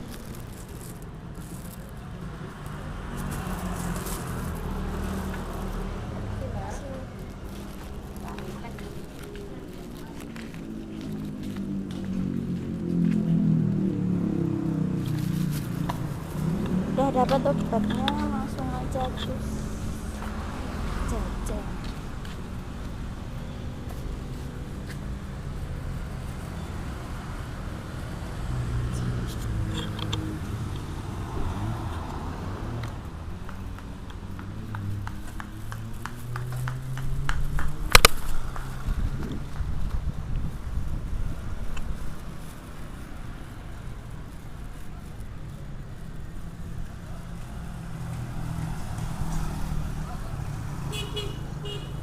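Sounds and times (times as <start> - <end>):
traffic noise: 0.0 - 52.0
vehicle engine rumbling: 0.0 - 52.0.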